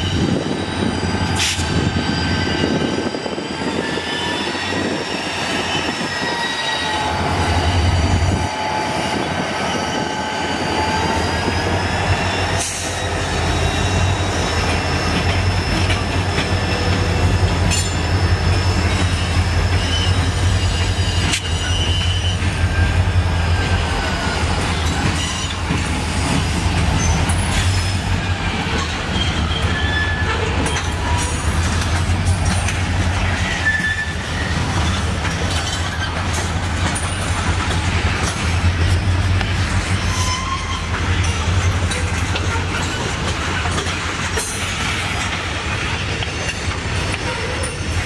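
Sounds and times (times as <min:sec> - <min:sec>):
train wheels squealing: 0:00.0 - 0:48.0.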